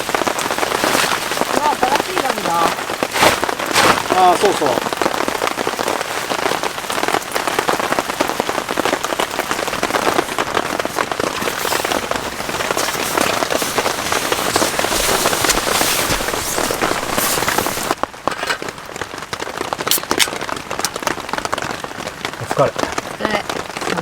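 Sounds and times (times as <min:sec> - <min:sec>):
heavy rain on a tent: 0:00.0 - 0:24.0.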